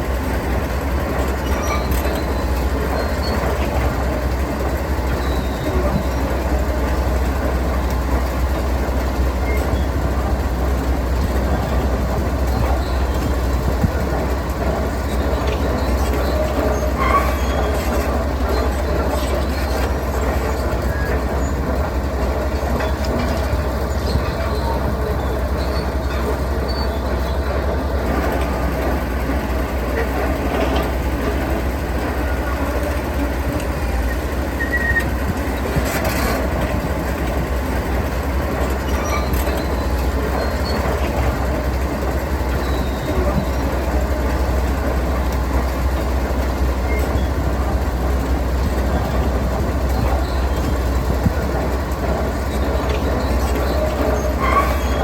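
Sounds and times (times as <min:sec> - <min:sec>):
diesel engine rumble: 0:00.0 - 0:55.0.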